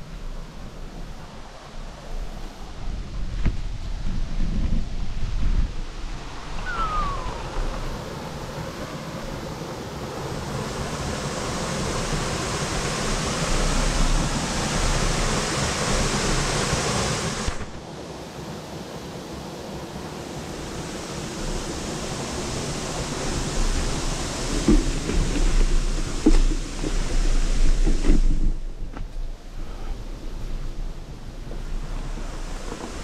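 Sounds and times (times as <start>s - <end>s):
flowing water rushing: 5.8s - 33.0s.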